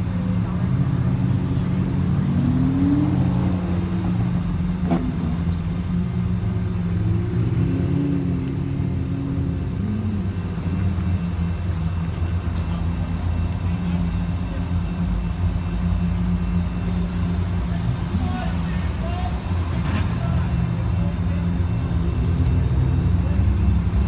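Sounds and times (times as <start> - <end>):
supercar engines idling: 0.0 - 24.0.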